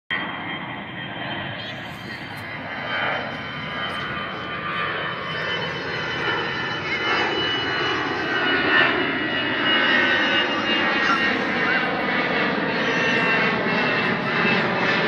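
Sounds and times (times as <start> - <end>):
jet engines roaring with whine: 0.1 - 15.0.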